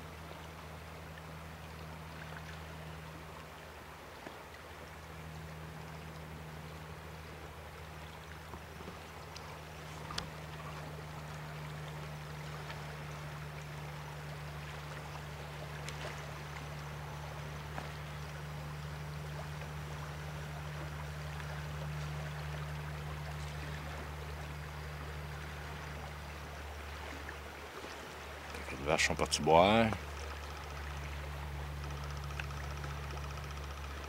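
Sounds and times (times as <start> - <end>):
low hum: 0.0 - 34.0
river water rushing: 0.0 - 34.0.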